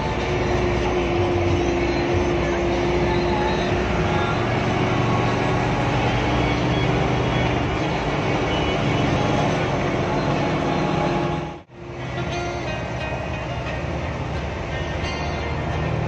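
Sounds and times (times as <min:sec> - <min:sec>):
bus diesel engine humming: 0:00.0 - 0:16.0
road and body noise: 0:00.0 - 0:16.0.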